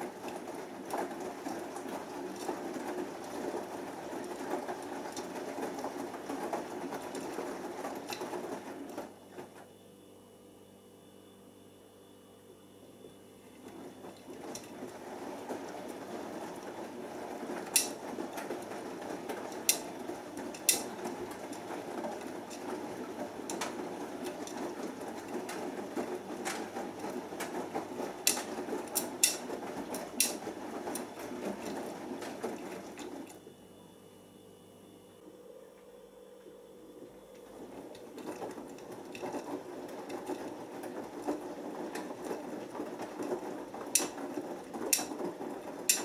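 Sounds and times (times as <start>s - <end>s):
washing machine drum tumbling: 0.0s - 9.6s, 13.5s - 33.4s, 37.2s - 46.0s.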